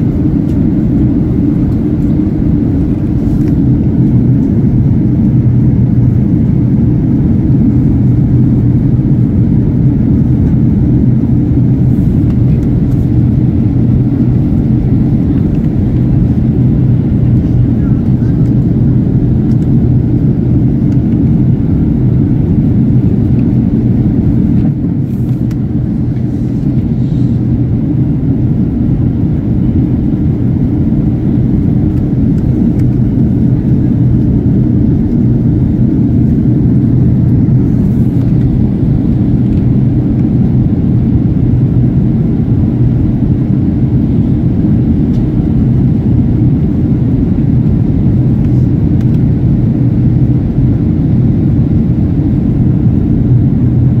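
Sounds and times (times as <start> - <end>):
airplane cabin rumble: 0.0 - 54.0
steady low hum: 0.0 - 54.0.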